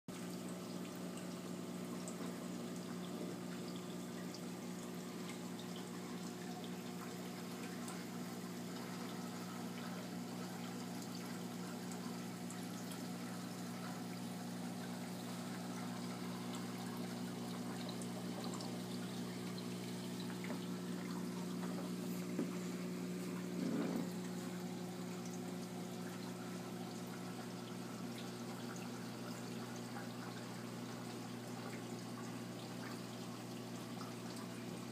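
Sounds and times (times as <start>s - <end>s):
low electric hum: 0.1s - 34.9s
water trickling and pouring: 0.1s - 34.9s.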